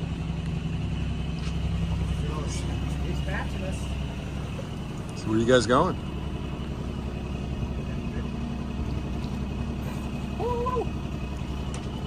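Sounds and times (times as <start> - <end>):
boat engine running: 0.0 - 12.0
water noise: 0.0 - 12.0.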